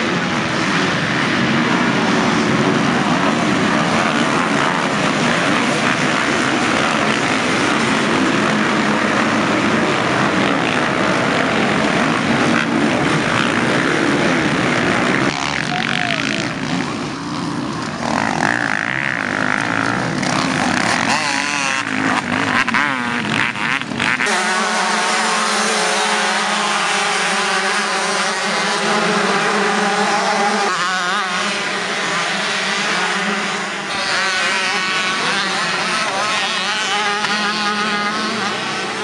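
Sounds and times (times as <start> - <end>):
motocross bikes racing: 0.0 - 39.0
single engines revving: 0.0 - 39.0.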